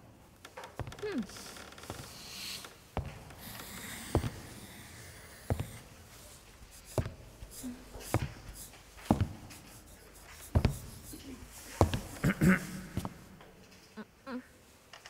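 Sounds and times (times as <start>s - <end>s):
footsteps on wooden floor: 0.5s - 13.7s.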